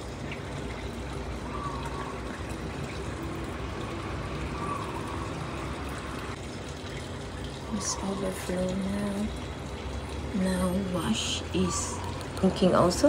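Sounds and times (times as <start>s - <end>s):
water filling washing machine: 0.0s - 13.0s.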